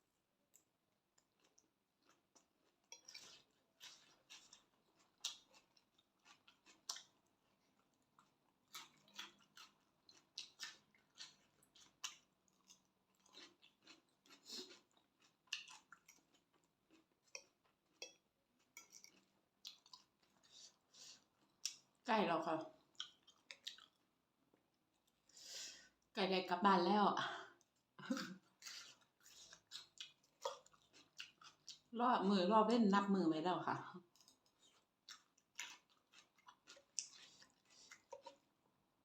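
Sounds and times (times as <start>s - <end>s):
person chewing: 0.5s - 22.0s, 22.8s - 26.0s, 27.6s - 31.9s, 34.0s - 38.8s.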